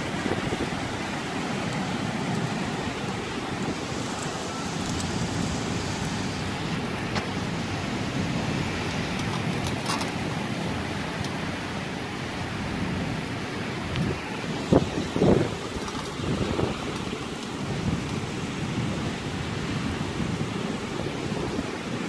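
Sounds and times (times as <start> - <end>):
rain: 0.0 - 22.0
wind: 0.0 - 22.0.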